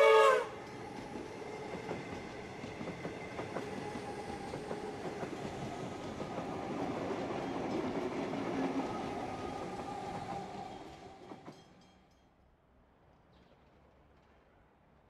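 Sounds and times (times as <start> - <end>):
electric train rumbling past: 0.0 - 12.2
faint train hum: 0.0 - 15.0.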